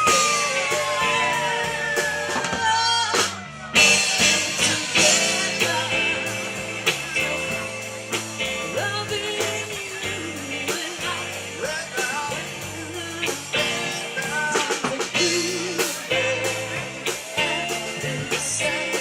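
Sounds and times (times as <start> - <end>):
rock and roll song: 0.0 - 19.0.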